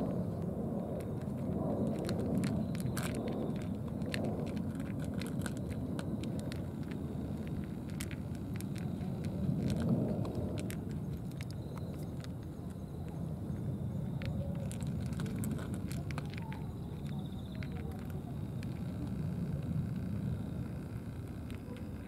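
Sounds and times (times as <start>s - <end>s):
cats chewing food: 0.0s - 22.0s
steady low rumble: 0.0s - 22.0s.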